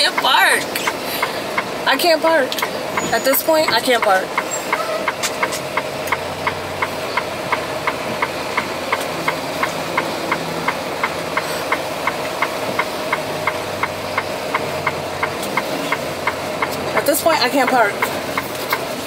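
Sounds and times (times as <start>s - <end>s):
steady clicking: 0.0s - 19.0s
truck diesel engine idling: 0.0s - 19.0s.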